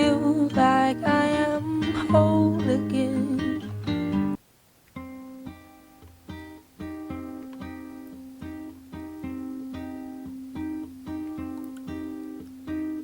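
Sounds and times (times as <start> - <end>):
acoustic guitar picking: 0.0 - 4.4, 5.0 - 13.0.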